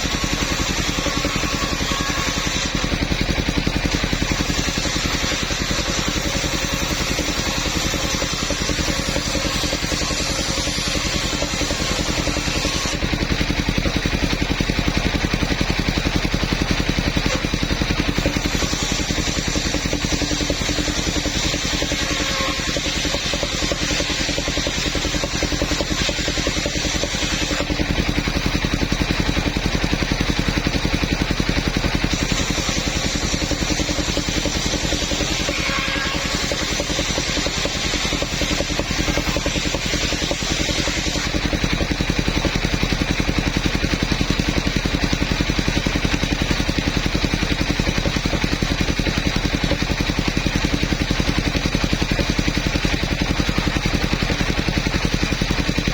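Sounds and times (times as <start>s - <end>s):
sawmill engine running steadily: 0.0s - 55.9s.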